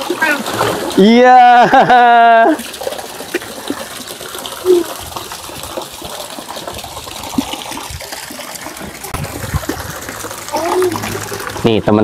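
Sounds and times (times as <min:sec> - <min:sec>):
tap water gushing into pool: 0:00.0 - 0:12.0.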